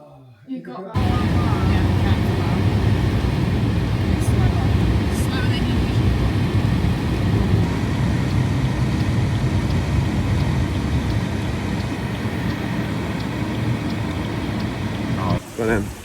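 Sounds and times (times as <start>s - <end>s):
heavy rain pouring: 1.0s - 16.0s
ticks of raindrops: 1.0s - 16.0s.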